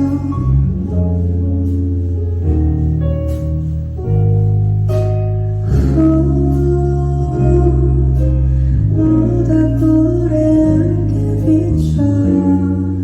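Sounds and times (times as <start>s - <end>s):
live band playing slow ballad: 0.0s - 13.0s.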